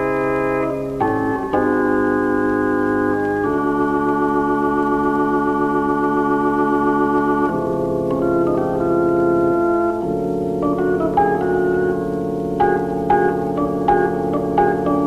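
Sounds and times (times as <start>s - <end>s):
organ playing held chords: 0.0s - 15.0s.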